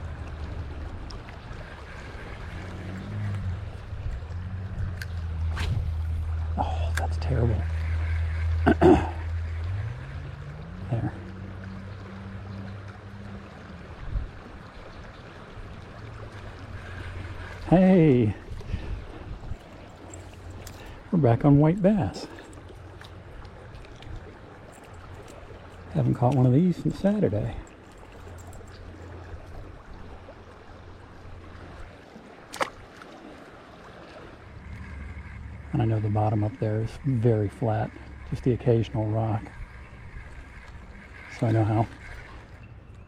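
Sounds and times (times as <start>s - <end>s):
low hum: 0.0s - 43.0s
river water rushing: 0.0s - 43.0s.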